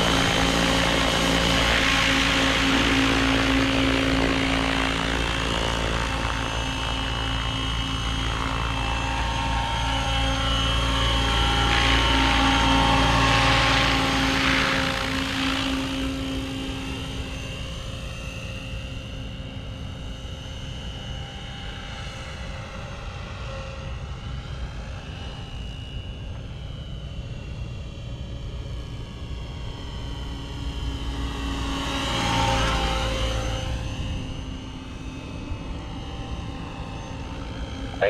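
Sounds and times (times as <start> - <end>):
rc helicopter rotor whine: 0.0 - 38.0.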